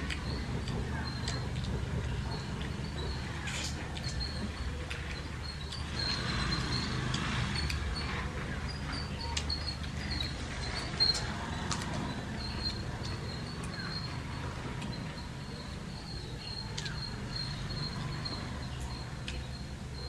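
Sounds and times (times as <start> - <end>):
wet chewing and mouth clicks: 0.0 - 19.5
steady low hum: 0.0 - 20.0.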